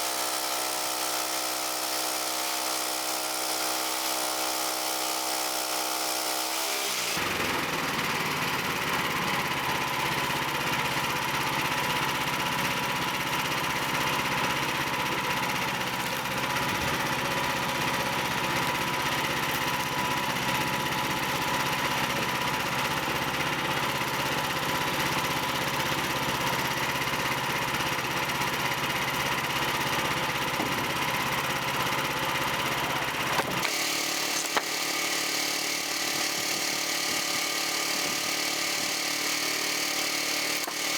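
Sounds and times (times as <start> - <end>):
band saw cutting log: 0.0 - 40.9
sawmill engine running: 0.0 - 40.9.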